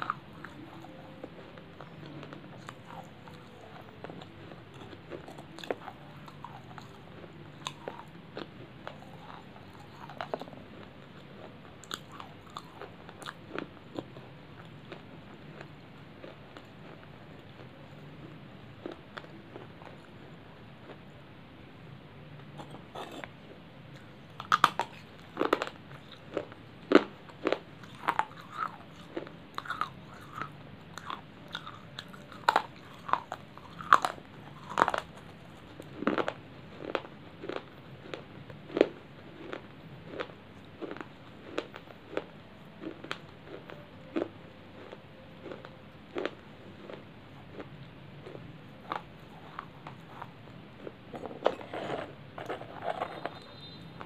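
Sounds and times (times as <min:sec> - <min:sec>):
person chewing crunchy clay: 0:00.0 - 0:21.1, 0:22.4 - 0:54.0.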